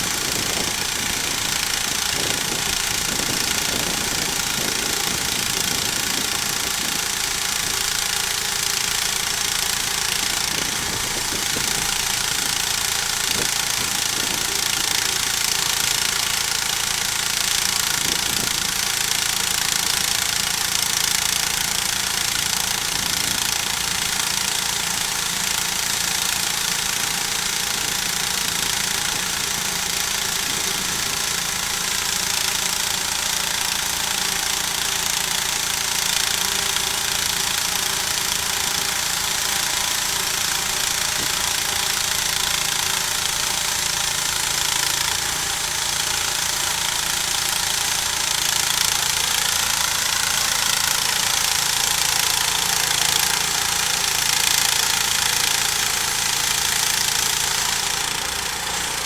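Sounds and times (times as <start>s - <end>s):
sawmill cutting log: 0.0s - 59.0s.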